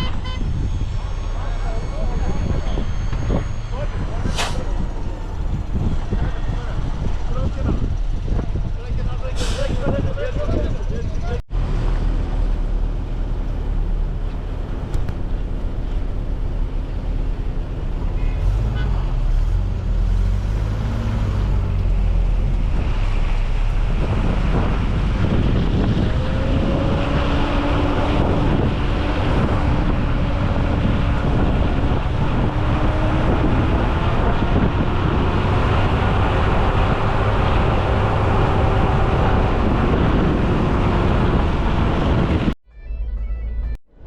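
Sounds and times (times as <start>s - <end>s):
wind on microphone: 0.0s - 11.4s, 14.0s - 42.6s.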